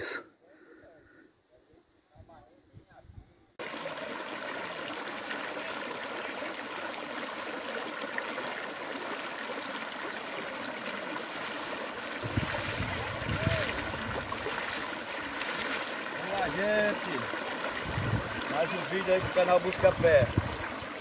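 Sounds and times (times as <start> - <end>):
splashes of wading: 3.6 - 21.0
stream water rushing and gurgling: 3.6 - 21.0.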